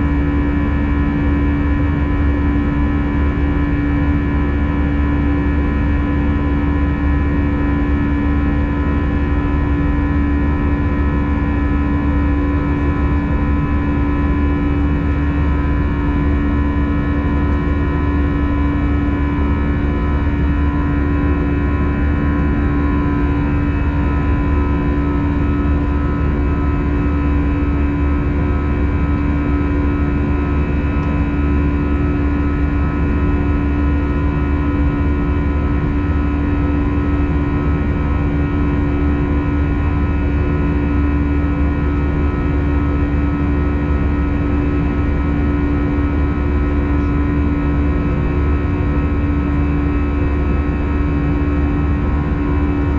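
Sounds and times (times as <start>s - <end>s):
airplane cabin engine drone: 0.0s - 52.9s
constant hum: 0.0s - 52.9s.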